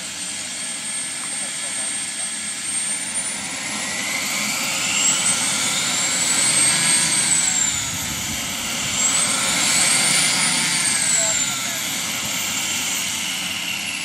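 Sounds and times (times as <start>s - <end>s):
model turboprop engine whine: 0.0s - 14.0s.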